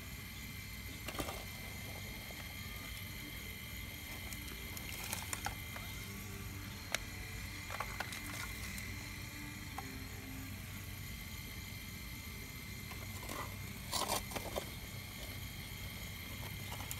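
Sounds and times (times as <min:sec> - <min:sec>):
model excavator motors whining: 0:00.0 - 0:16.9.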